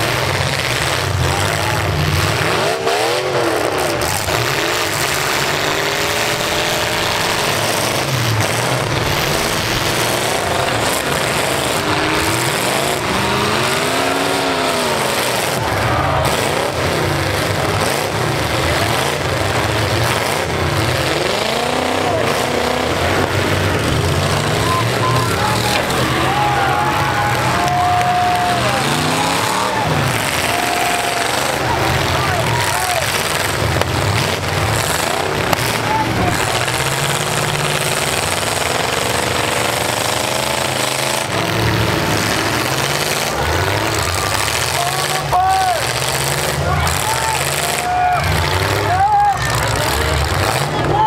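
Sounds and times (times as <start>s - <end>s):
truck engines revving hard: 0.0s - 51.0s.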